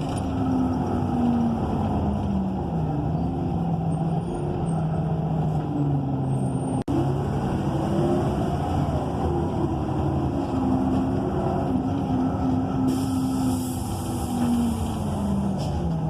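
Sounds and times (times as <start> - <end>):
bus engine from inside cabin: 0.0 - 16.0.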